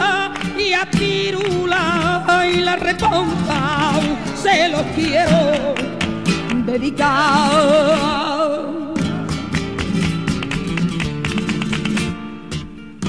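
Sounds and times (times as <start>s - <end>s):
flamenco guitar strumming: 0.0s - 13.0s.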